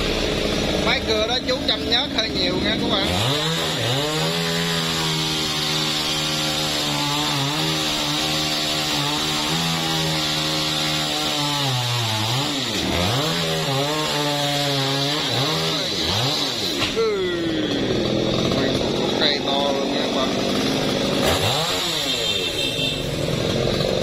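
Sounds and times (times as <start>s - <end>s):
chainsaw cutting tree trunk: 0.0s - 24.0s.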